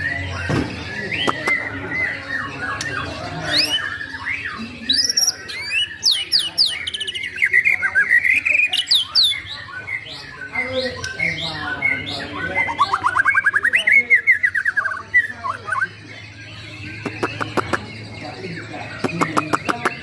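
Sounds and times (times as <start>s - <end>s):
bird singing whistles: 0.0s - 17.9s.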